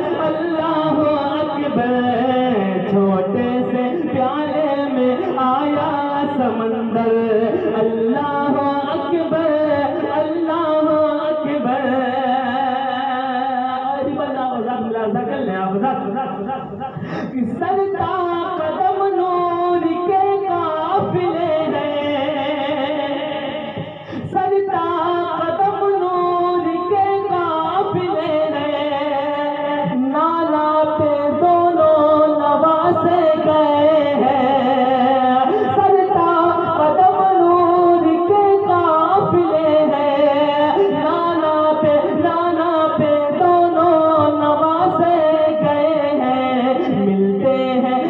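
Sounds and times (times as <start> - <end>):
man singing devotional song: 0.0 - 48.0.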